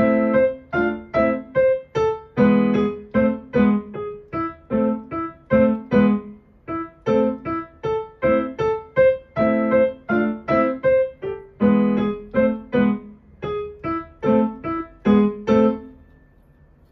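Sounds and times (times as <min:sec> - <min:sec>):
piano notes and chords: 0:00.0 - 0:16.9.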